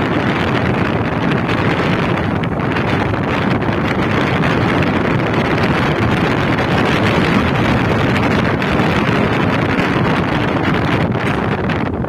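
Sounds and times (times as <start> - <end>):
road noise: 0.0 - 12.0
vehicle engine: 0.0 - 12.0
wind rushing over microphone: 0.0 - 12.0.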